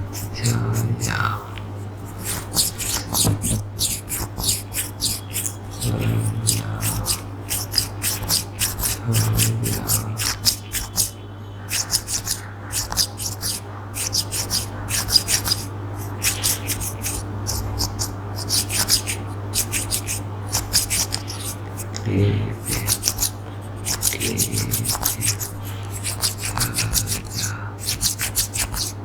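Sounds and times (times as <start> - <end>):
steady low hum: 0.0 - 29.0
toothpick scratching: 0.0 - 29.0.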